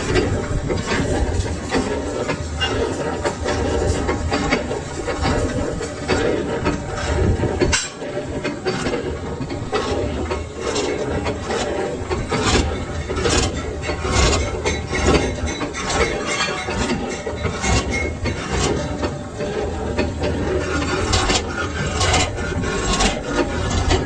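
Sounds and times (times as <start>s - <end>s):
low machine hum: 0.0s - 24.0s
metal scraping on a lathe: 0.0s - 24.0s.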